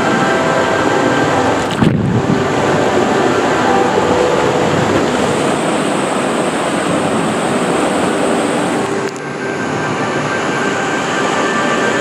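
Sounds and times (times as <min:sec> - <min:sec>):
rushing churning water: 0:00.0 - 0:12.0.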